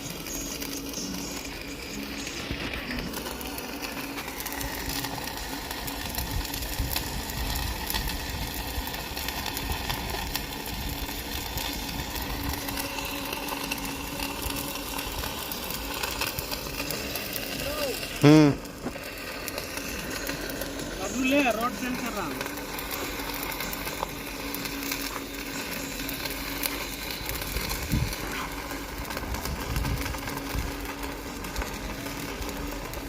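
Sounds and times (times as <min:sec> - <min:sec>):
welding arc crackling: 0:00.0 - 0:33.0.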